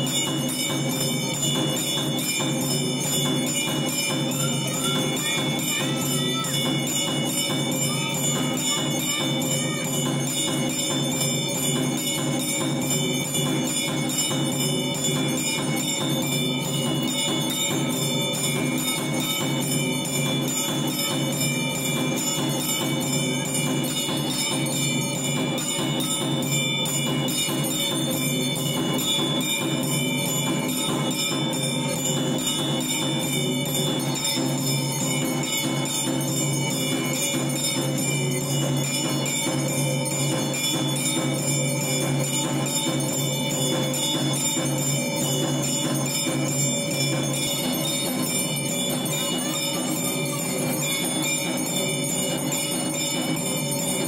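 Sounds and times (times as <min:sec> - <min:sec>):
temple bells ringing rapidly: 0:00.0 - 0:54.0.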